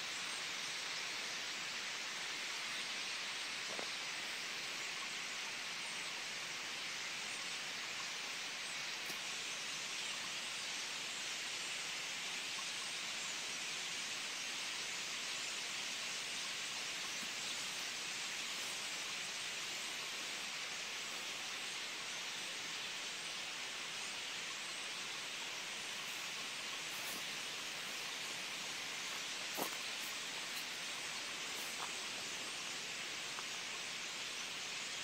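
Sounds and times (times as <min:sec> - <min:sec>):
flock of birds chattering: 0:00.0 - 0:35.0.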